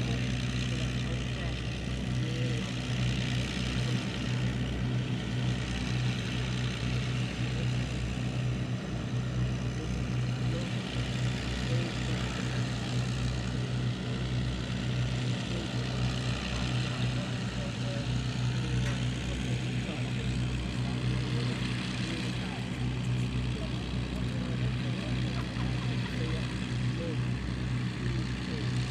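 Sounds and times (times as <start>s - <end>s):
aero engines droning: 0.0s - 28.9s.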